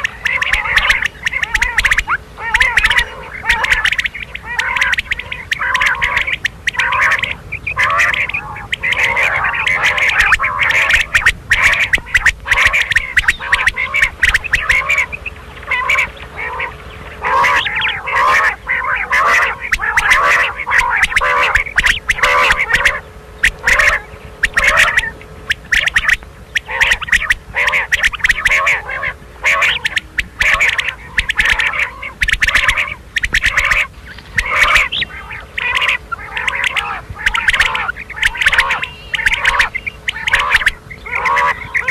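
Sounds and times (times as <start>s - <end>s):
quail calling: 0.0s - 41.9s.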